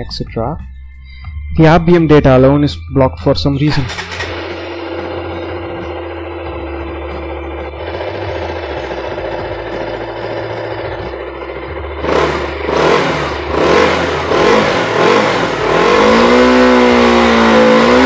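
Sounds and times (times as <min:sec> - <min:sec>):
motorcycle engine idling and revving: 0:03.2 - 0:18.0.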